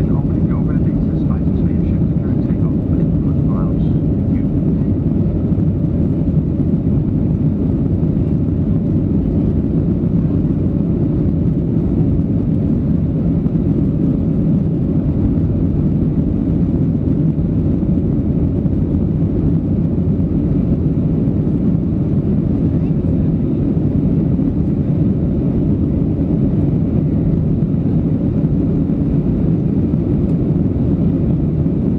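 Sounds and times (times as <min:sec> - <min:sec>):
airplane cabin engine rumble: 0:00.0 - 0:31.9.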